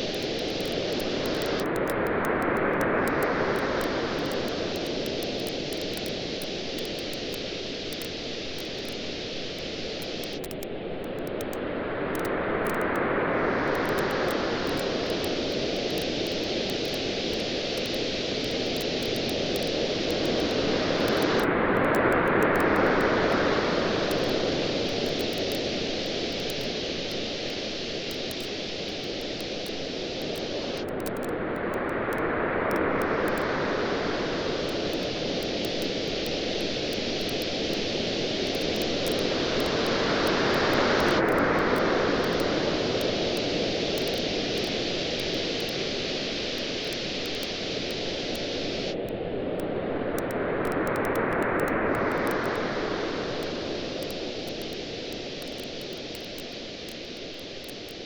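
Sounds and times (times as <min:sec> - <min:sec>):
campfire crackles: 0:00.0 - 0:11.6, 0:13.6 - 0:49.1, 0:50.6 - 0:58.0
steady hiss: 0:00.0 - 0:58.0.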